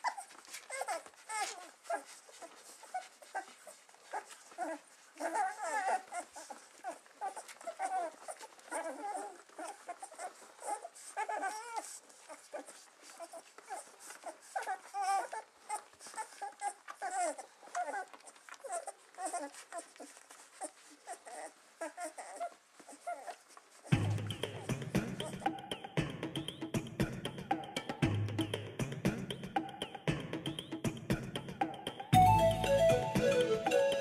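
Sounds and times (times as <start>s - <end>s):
puppies squeaking and whimpering: 0.0s - 25.9s, 32.2s - 34.0s.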